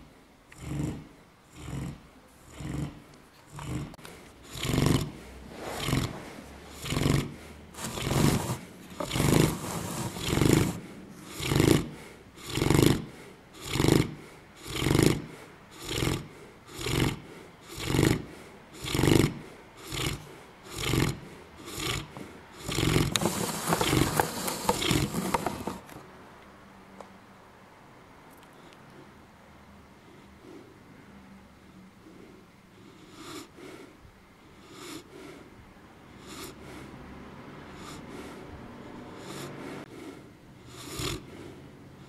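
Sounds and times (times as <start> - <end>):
dog snoring: 0.0 - 25.9, 32.1 - 35.5, 36.1 - 37.0, 37.7 - 41.7.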